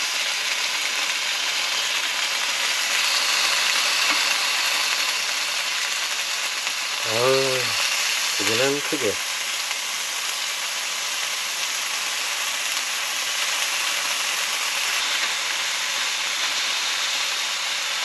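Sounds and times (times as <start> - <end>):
steak sizzling in a pan: 0.0 - 18.0.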